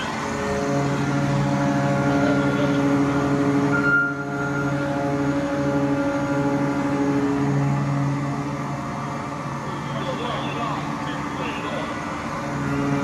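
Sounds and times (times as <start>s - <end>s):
steering gear machine hum: 0.0s - 13.0s.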